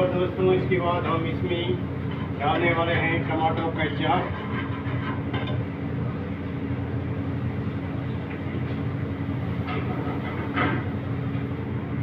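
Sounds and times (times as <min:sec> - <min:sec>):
kitchen machinery humming: 0:00.0 - 0:12.0.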